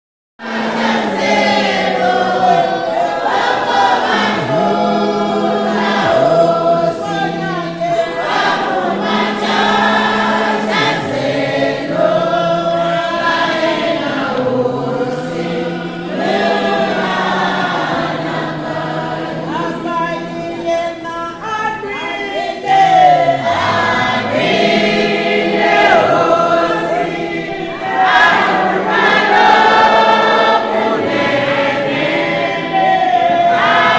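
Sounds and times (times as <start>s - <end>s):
choir singing gospel: 0.4s - 33.9s.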